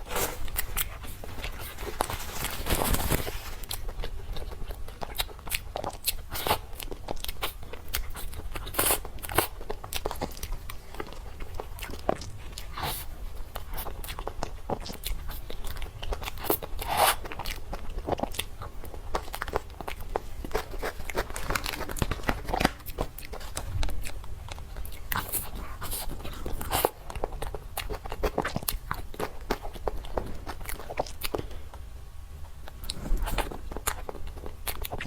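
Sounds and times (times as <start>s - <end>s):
person chewing crunchy food: 0.0s - 31.9s, 32.5s - 35.0s.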